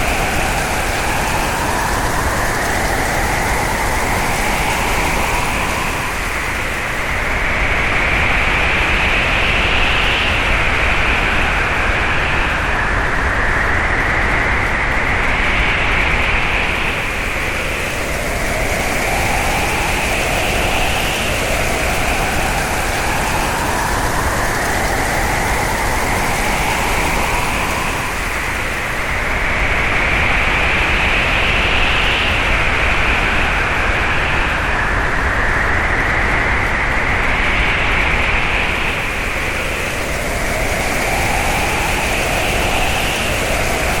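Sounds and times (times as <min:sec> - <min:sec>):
high wind whistle: 0:00.0 - 0:13.3, 0:16.6 - 0:44.0
low wind whistle: 0:00.0 - 0:44.0
strong wind rushing: 0:00.0 - 0:44.0.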